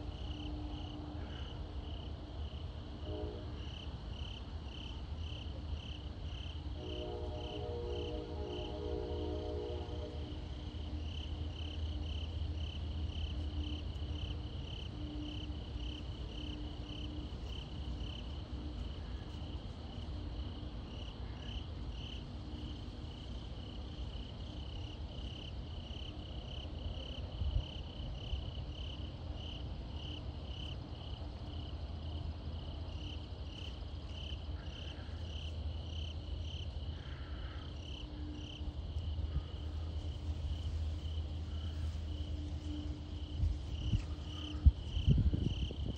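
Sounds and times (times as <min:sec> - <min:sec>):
low wind rumble: 0:00.0 - 0:45.9
night insects chirping: 0:00.0 - 0:45.9.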